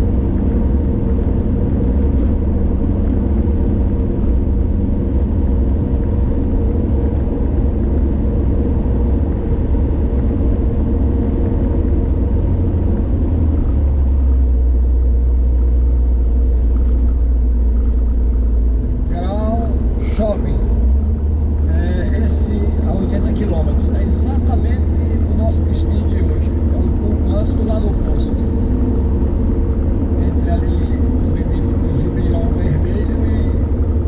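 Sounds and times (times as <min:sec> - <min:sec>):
car driving at highway speed: 0:00.0 - 0:34.0.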